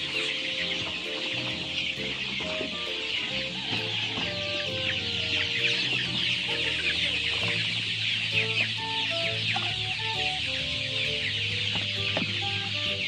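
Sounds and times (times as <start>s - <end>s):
chicks peeping: 0.0s - 13.0s
soft background music: 0.0s - 13.0s.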